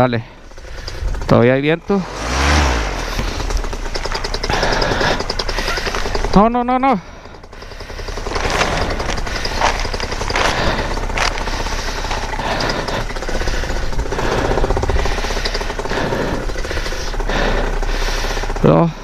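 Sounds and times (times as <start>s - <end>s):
two-stroke engine running: 0.0s - 19.0s.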